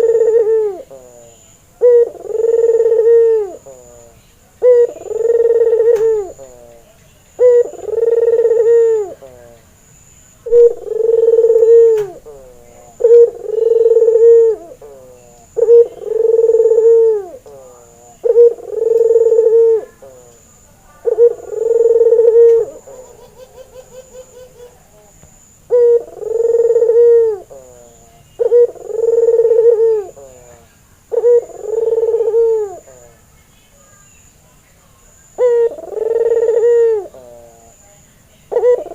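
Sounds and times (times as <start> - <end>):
dove cooing: 0.0 - 9.6, 10.4 - 33.2, 35.3 - 37.8, 38.5 - 38.9.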